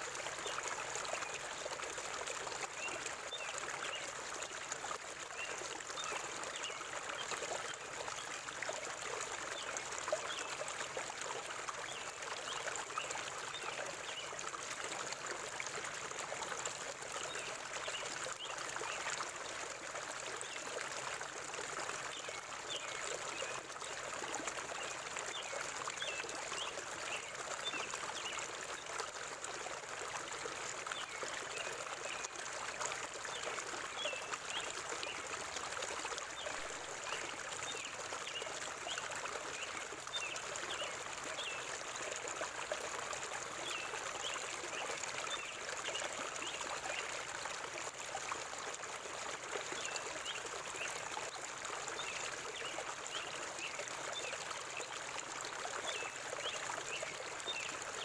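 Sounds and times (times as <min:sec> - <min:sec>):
river water flowing and babbling: 0:00.0 - 0:58.0.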